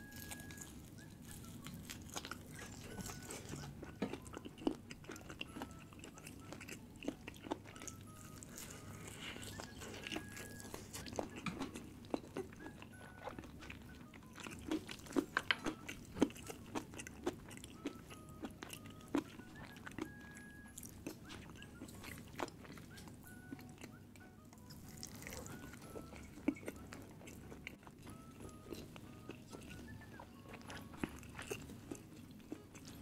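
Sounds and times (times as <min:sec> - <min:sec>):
person chewing with wet smacks: 0:00.0 - 0:33.0.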